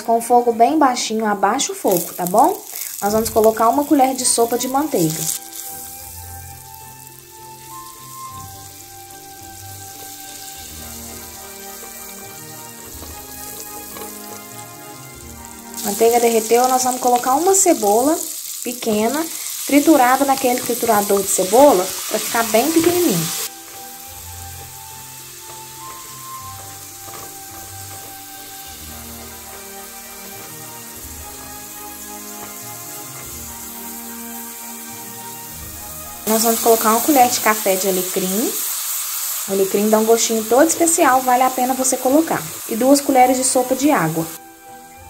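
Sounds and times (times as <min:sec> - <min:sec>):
background music: 0:00.0 - 0:45.0
butter sizzling in a pan: 0:01.3 - 0:45.0.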